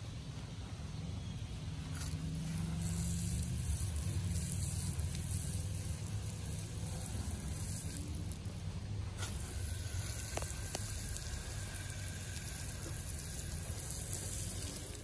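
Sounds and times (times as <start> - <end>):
low steady rumble: 0.0 - 15.0
hose spraying water: 1.6 - 15.0.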